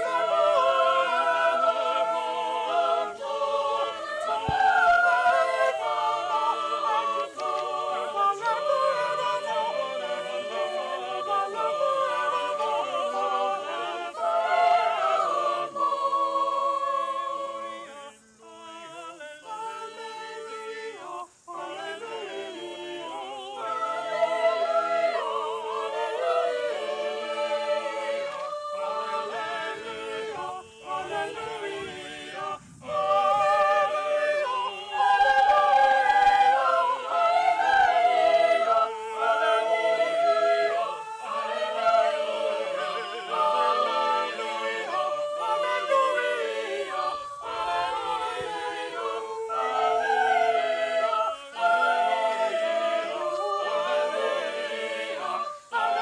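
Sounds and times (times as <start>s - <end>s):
choir singing unaccompanied: 0.0s - 56.0s.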